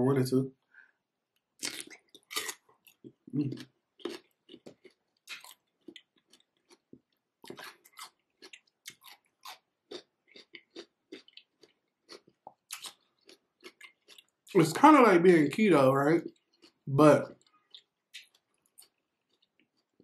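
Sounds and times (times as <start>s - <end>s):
crisp crunchy chewing: 1.6s - 14.7s, 16.2s - 20.0s.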